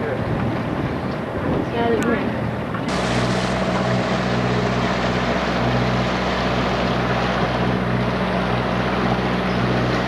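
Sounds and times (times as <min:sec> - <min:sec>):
boat engine hum: 0:00.0 - 0:10.0
wind and water rushing: 0:00.0 - 0:10.0.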